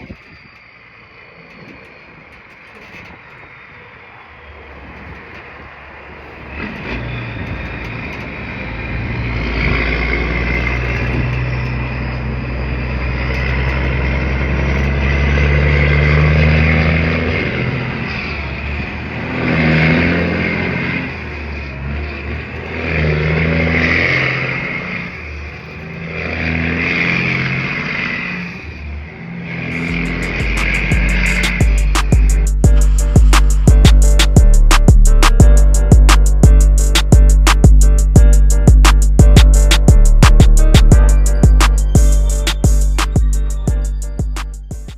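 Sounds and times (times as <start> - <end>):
truck diesel engine shifting gears: 0.0 - 44.9.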